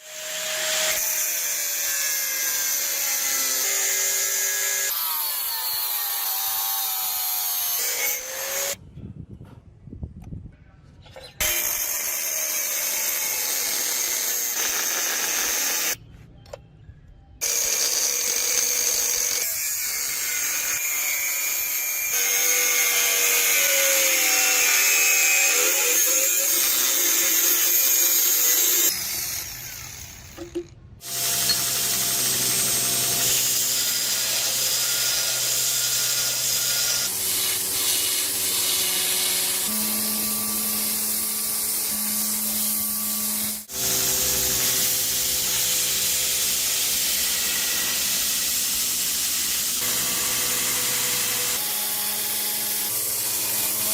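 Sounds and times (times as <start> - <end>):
power tool grinding steel: 0.0 - 8.8, 11.4 - 16.0, 17.4 - 53.9.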